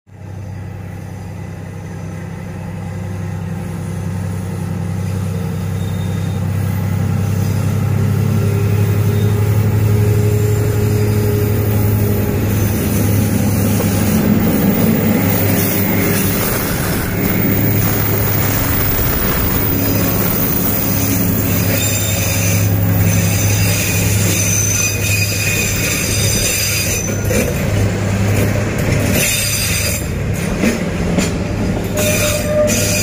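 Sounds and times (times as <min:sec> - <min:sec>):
diesel locomotive engine droning: 0:00.1 - 0:33.0.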